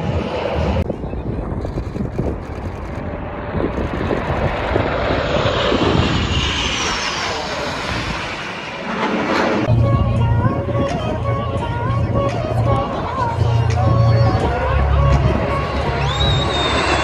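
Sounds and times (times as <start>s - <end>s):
airplane flying past: 0.0s - 17.0s.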